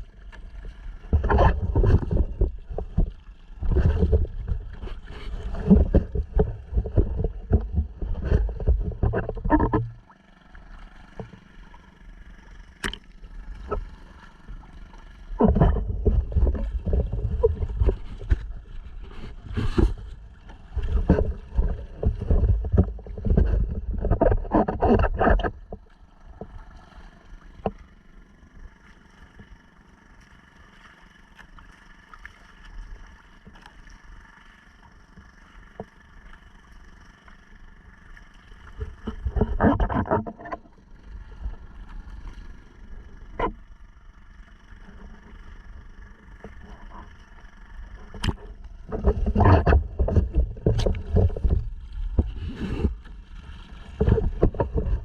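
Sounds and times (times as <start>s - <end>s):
outboard motor hum: 0.0s - 55.0s.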